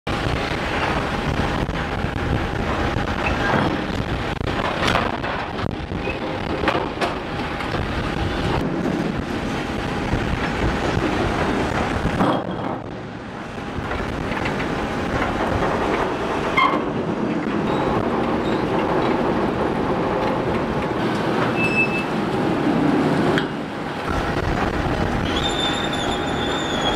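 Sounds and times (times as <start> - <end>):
engines rumbling: 0.1 - 26.9
mechanical knocks and clanks: 0.2 - 22.1.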